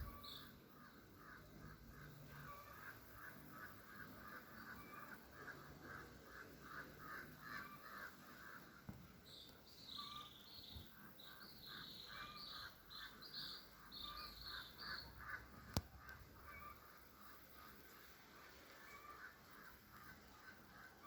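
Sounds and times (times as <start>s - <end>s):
higher bird calls: 0.0s - 18.0s
faint birds calling: 0.0s - 21.0s.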